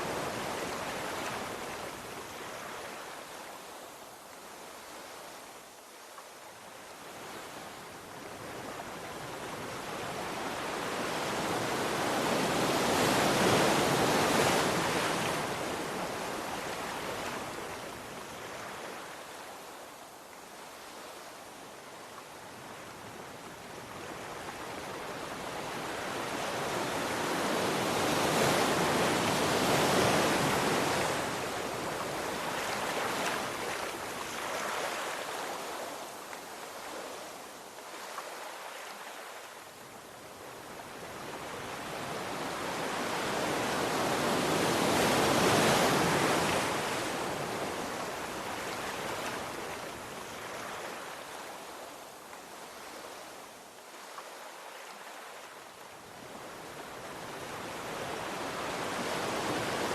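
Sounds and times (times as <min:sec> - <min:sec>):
sea waves rolling in: 0:00.0 - 0:59.9.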